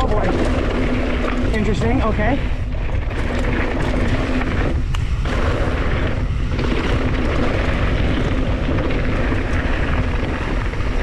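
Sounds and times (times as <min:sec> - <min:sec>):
bike rolling on trail: 0:00.0 - 0:11.0
wind rumble on microphone: 0:00.0 - 0:11.0.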